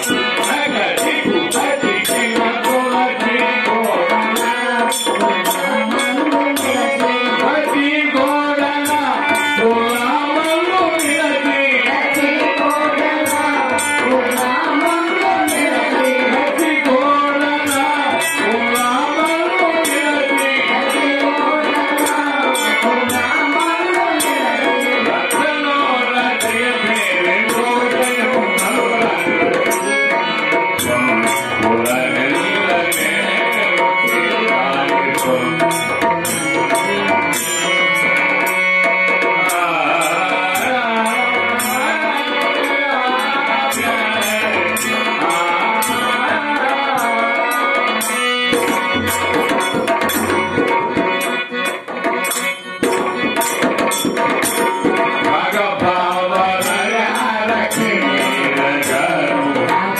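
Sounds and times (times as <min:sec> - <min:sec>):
harmonium held tones: 0:00.0 - 0:59.9
person singing: 0:00.0 - 0:59.9.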